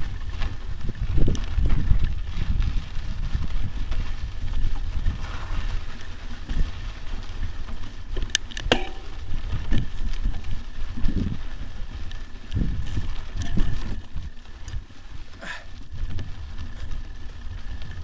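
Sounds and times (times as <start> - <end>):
mountain bike rattling on rocks: 0.0 - 18.0
wind buffeting microphone: 0.0 - 18.0.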